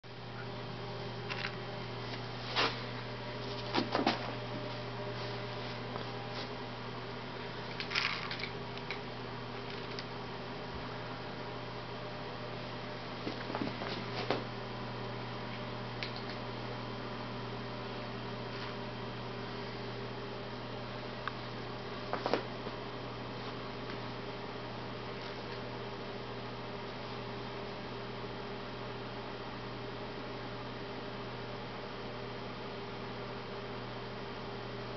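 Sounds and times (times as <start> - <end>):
low electrical hum: 0.0 - 34.9.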